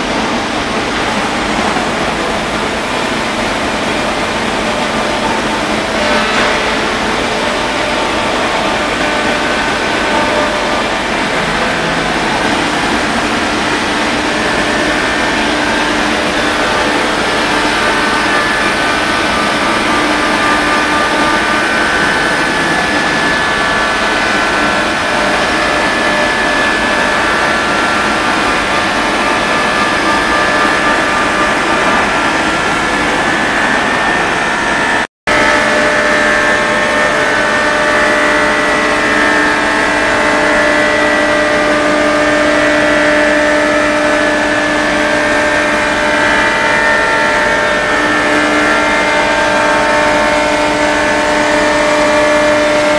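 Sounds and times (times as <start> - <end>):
router spindle machining wood: 0.0 - 52.9.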